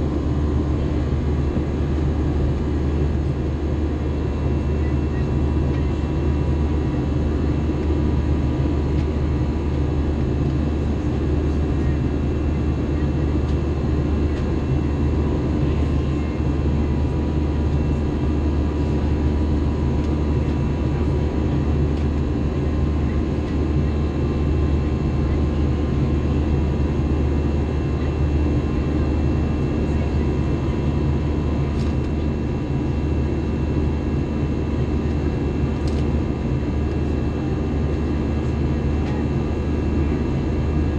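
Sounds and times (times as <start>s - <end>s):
jet engines and airflow rumble: 0.0s - 40.9s.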